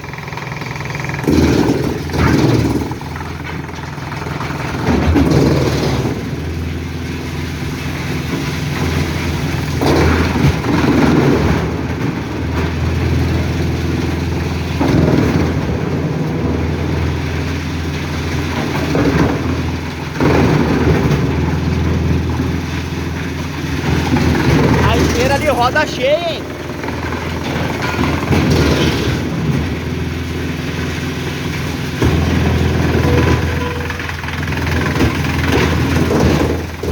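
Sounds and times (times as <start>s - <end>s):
wood chipper chipping logs: 0.0s - 36.9s.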